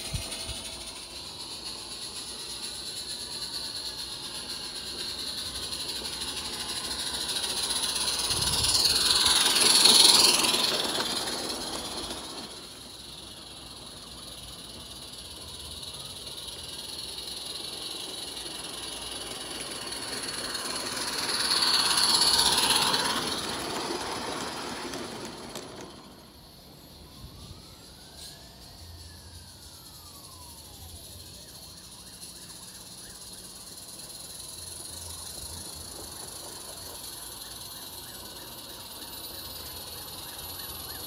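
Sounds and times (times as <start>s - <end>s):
model train motor whine: 0.0s - 41.0s
wheels rattling on rail: 0.0s - 41.0s.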